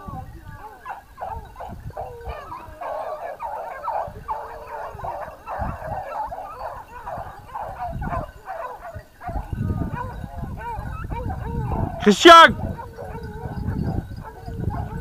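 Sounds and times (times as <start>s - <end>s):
dogs baying and yelping: 0.0s - 15.0s.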